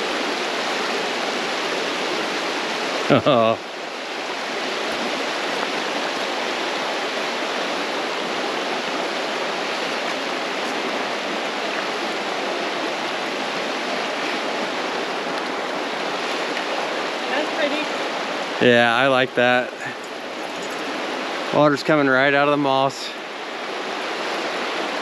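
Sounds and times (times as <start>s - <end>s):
creek running over stones: 0.0s - 25.0s.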